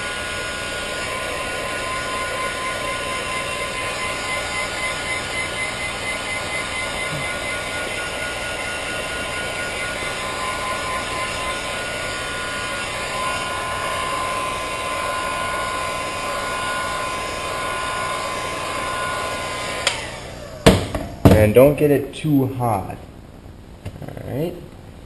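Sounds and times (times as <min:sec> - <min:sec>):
heat gun blowing air: 0:00.0 - 0:21.1.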